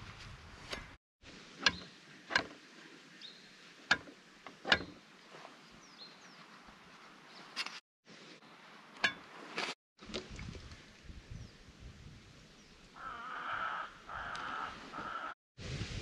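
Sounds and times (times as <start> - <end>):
faint outdoor background noise: 0.0 - 15.4.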